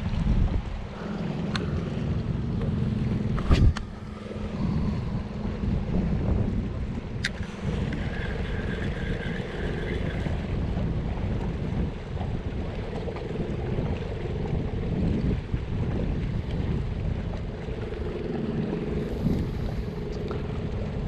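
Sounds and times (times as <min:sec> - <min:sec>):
low engine hum: 0:00.0 - 0:21.0
wind buffeting microphone: 0:00.0 - 0:21.0.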